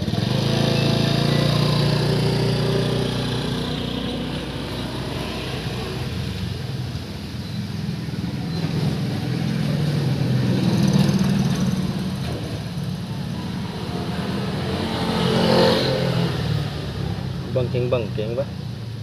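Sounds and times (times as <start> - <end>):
vehicle engine running: 0.0 - 15.4.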